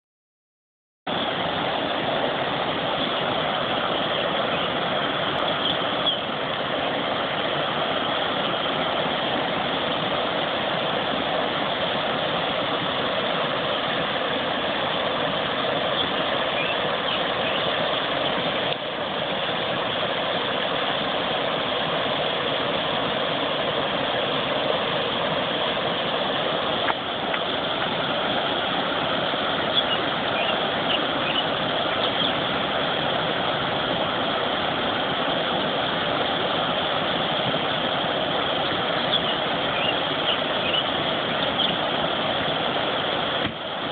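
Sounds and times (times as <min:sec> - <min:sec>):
river rushing over rocks: 0:01.1 - 0:43.9.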